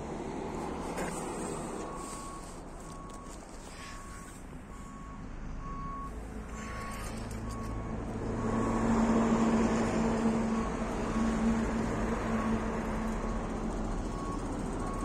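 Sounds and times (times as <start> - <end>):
engine hum: 0.0 - 15.0
vehicle reversing alarm beeping: 0.0 - 15.0.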